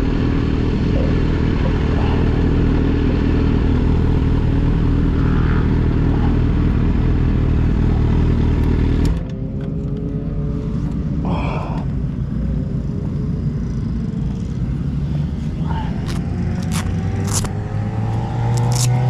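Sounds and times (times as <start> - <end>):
motorcycle engine idling: 0.0 - 9.0, 11.0 - 18.4.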